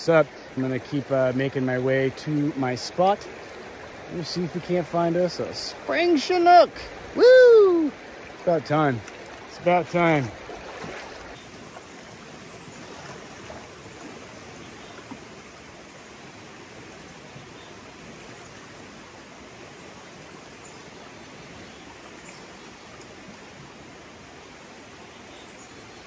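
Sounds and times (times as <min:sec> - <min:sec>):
river rushing over rocks: 0:00.0 - 0:25.1.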